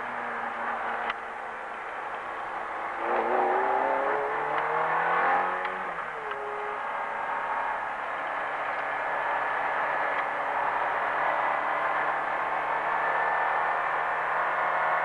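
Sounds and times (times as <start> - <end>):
road and wind noise: 0.0 - 15.0
sports car engine revving: 0.0 - 15.0.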